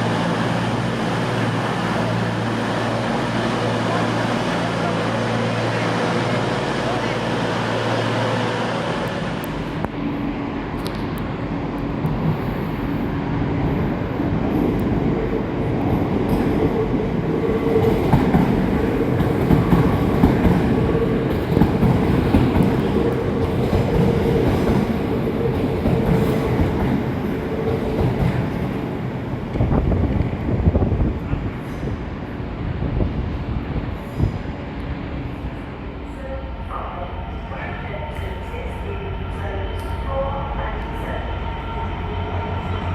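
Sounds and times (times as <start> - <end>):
steady train whine: 0.0 - 42.9
train moving along track: 0.0 - 42.9.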